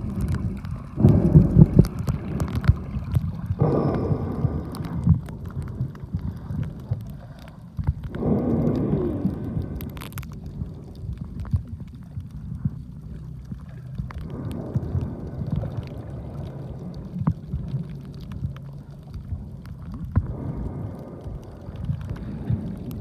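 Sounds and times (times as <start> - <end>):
sharp clicks and ticks: 0.0 - 23.0
underwater rumble: 0.0 - 23.0.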